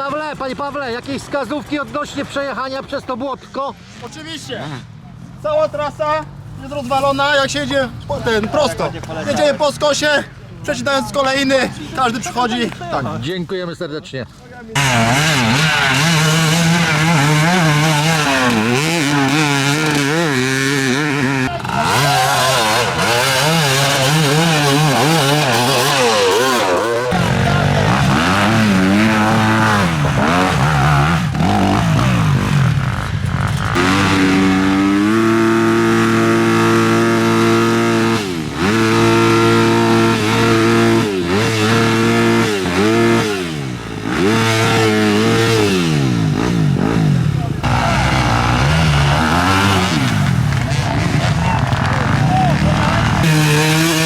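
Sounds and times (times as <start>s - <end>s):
motorcycle engines revving: 0.0s - 13.5s, 14.6s - 54.0s.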